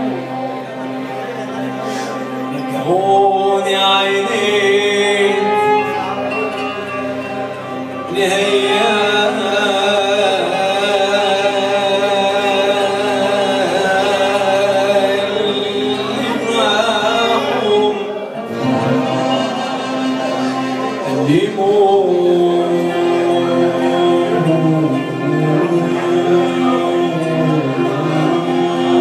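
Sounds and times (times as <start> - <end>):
violin: 0.0 - 29.0
qanun: 0.8 - 29.0
man singing into microphone: 1.8 - 29.0.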